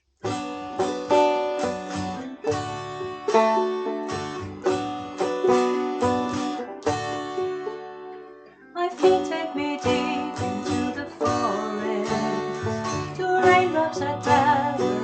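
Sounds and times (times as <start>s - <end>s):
acoustic plucked strings: 0.2s - 15.0s.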